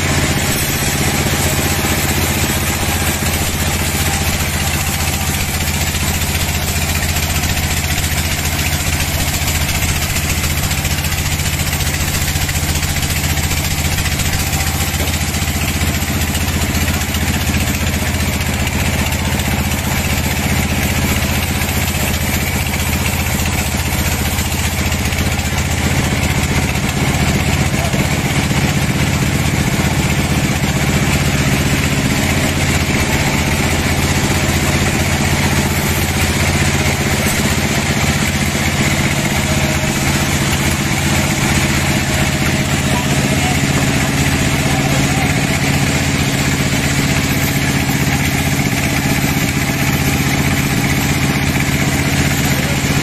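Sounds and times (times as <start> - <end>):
low drone of mill drive: 0.0 - 53.0
saw blade cutting log: 0.0 - 53.0.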